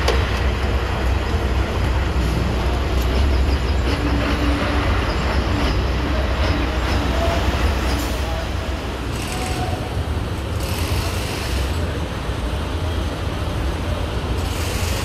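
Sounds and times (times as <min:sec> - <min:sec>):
busy bus station din: 0:00.0 - 0:15.0
diesel bus engine rumbling: 0:00.0 - 0:15.0.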